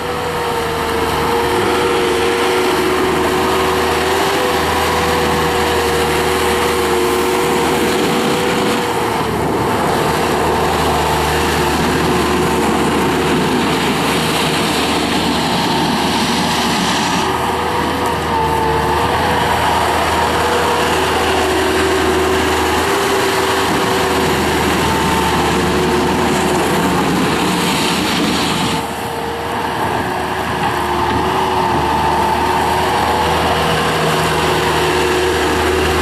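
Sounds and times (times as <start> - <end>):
diesel engine running: 0.0 - 36.0
steady whine: 0.0 - 36.0.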